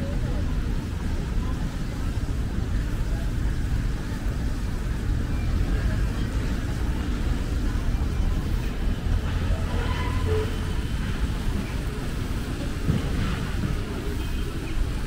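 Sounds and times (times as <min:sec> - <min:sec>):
faint voices: 0:00.0 - 0:15.0.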